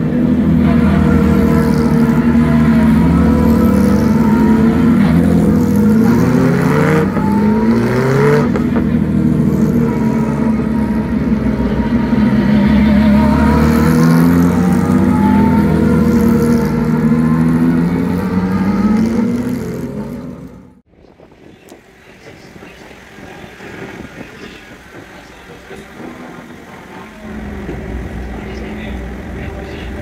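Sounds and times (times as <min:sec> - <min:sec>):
engine throttle blips: 0:00.0 - 0:30.0
race cars driving slowly past: 0:00.0 - 0:30.0.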